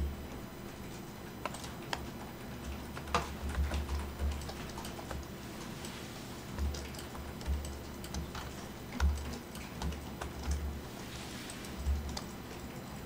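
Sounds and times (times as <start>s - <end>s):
keyboard and mouse clicks: 1.2s - 13.0s.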